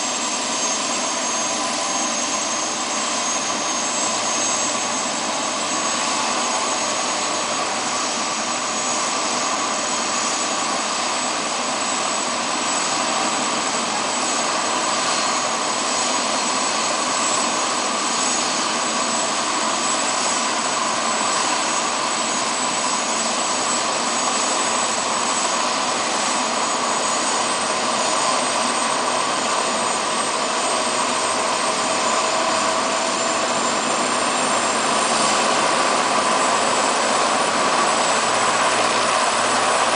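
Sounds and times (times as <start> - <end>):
helicopter turbine whine: 0.0 - 39.9.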